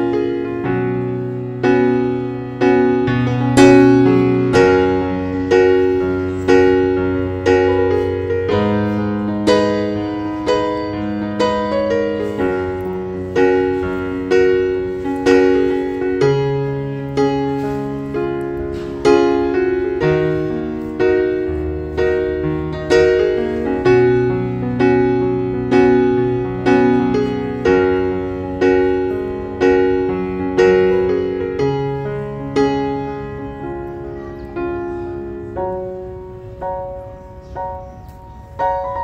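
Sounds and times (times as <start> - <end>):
gentle piano music: 0.0 - 39.0.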